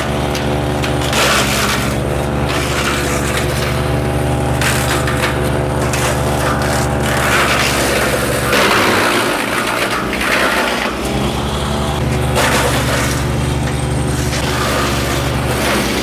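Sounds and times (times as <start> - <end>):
wood chipper engine drone: 0.0 - 16.0
branches being chipped: 0.1 - 16.0.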